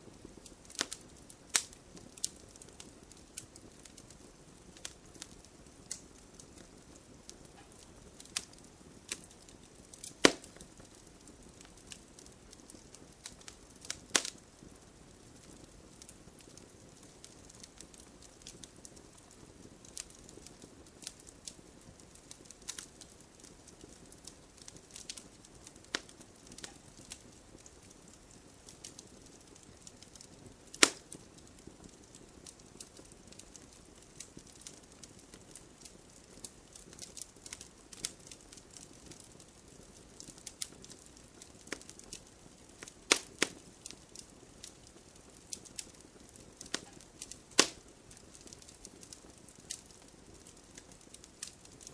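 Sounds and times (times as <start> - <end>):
campfire crackling and popping: 0.0 - 51.9.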